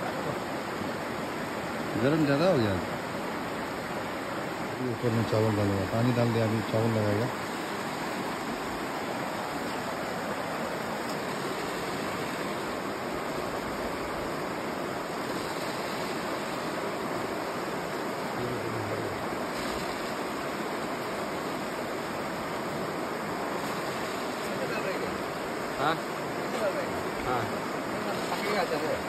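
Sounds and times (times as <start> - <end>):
mountain stream rushing: 0.0 - 29.0.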